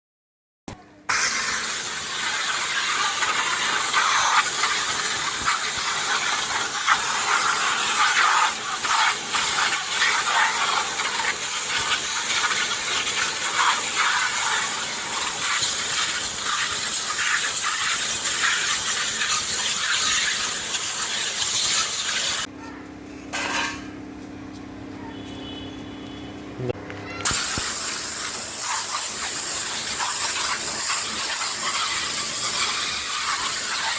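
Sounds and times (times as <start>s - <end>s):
wet sandblasting spray on metal: 1.1s - 22.5s, 27.3s - 33.9s.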